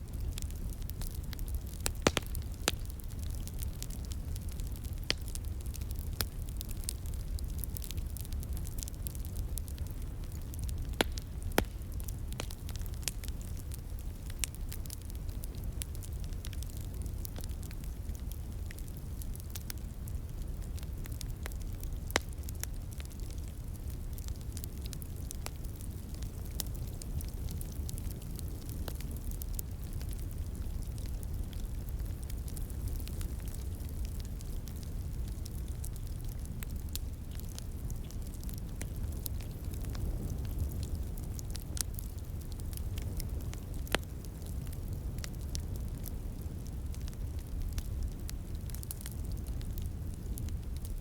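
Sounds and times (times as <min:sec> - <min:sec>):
fire crackling and popping: 0:00.0 - 0:51.0.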